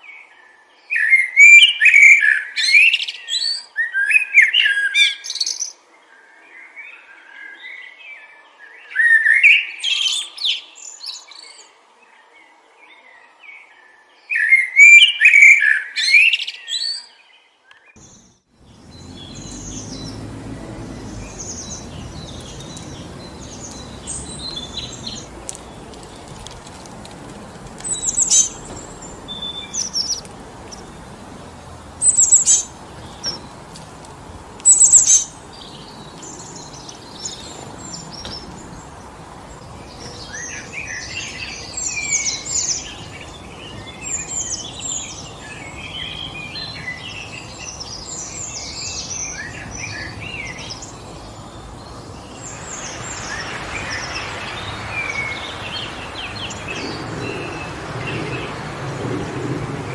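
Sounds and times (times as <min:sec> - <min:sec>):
songbirds chirping: 0:00.0 - 0:59.9
wind through trees: 0:00.0 - 0:59.9.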